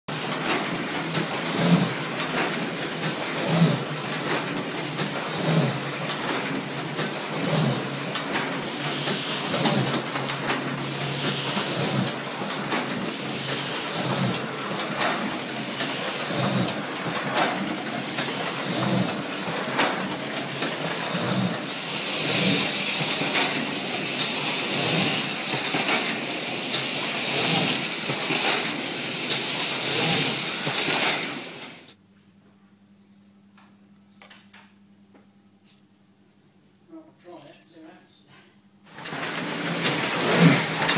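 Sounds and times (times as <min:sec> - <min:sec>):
printing press clattering: 0:00.1 - 0:31.9, 0:38.9 - 0:40.9.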